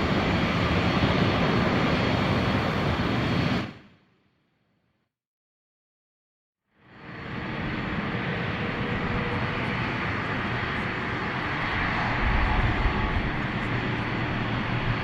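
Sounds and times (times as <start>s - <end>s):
airliner engines running: 0.0s - 3.8s, 6.8s - 15.0s.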